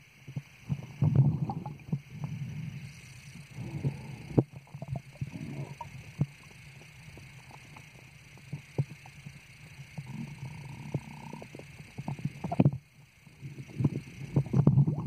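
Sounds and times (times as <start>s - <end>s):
faint steady hiss: 0.0s - 15.0s
muffled underwater rumbling and sloshing: 0.0s - 15.0s
underwater knocks and clicks: 0.3s - 2.4s, 3.8s - 15.0s.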